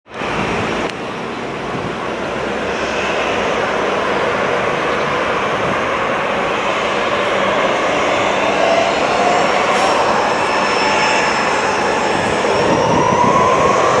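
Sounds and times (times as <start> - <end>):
airliner engines roaring: 0.1 - 14.0.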